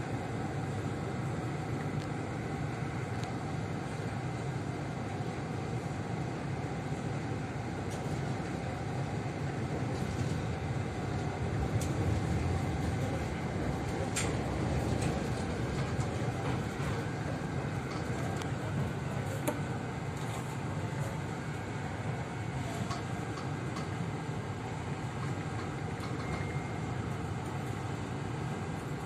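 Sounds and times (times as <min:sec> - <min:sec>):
train interior rumble: 0:00.0 - 0:29.0.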